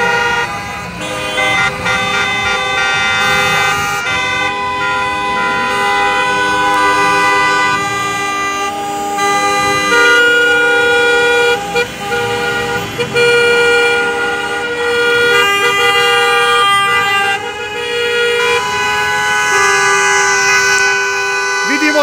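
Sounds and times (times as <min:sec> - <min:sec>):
car horns honking: 0:00.0 - 0:22.0.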